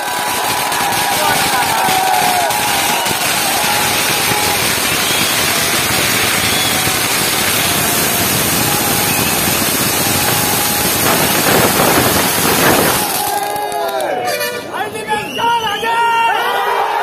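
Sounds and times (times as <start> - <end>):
fountain firework hissing: 0.0 - 13.8.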